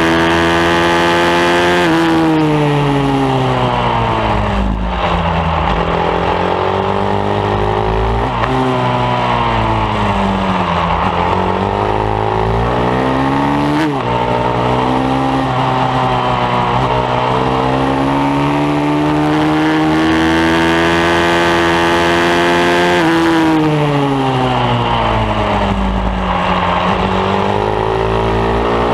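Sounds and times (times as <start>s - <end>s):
motorbike engine revving: 0.0s - 28.9s.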